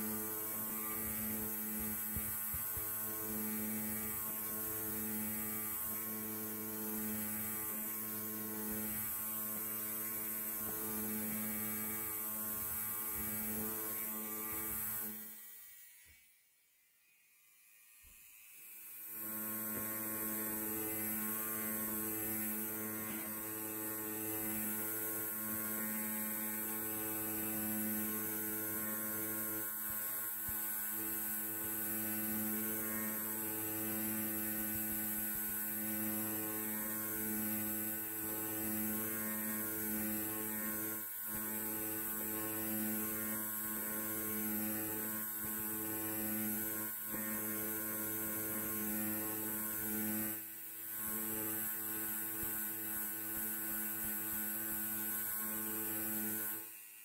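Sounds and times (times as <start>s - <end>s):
electric hair clipper buzzing: 0.0s - 57.0s.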